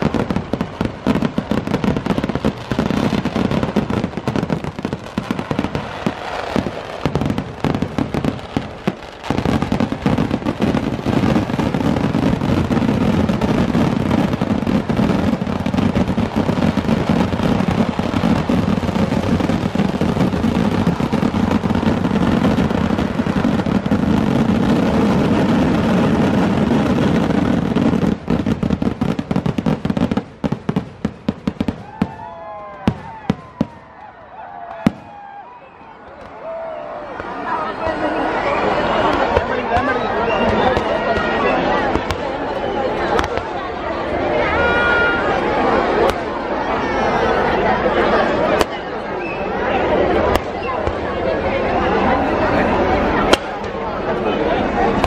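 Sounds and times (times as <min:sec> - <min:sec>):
firecracker explosions: 0:00.0 - 0:55.0.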